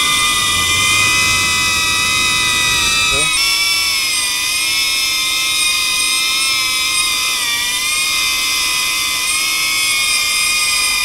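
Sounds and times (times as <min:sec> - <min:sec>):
drone propeller whine: 0:00.0 - 0:11.0.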